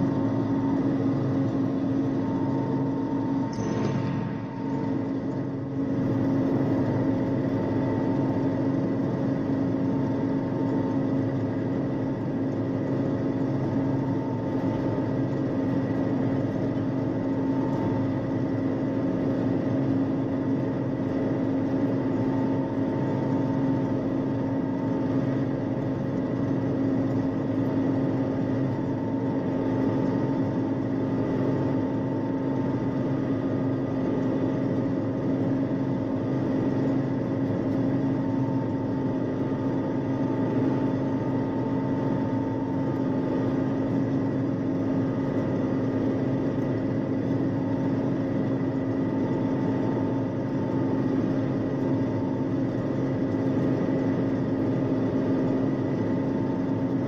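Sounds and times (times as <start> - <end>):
combine engine and machinery drone: 0.0 - 57.0.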